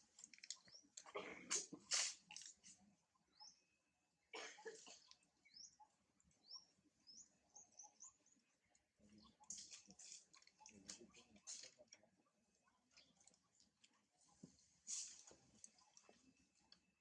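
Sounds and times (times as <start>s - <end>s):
faint bird chirps: 0.3s - 17.0s.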